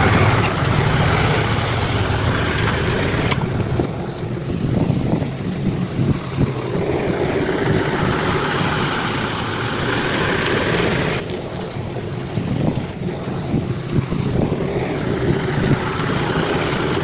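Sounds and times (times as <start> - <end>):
bulldozer diesel engine: 0.0 - 17.0
rushing noise: 0.0 - 17.0.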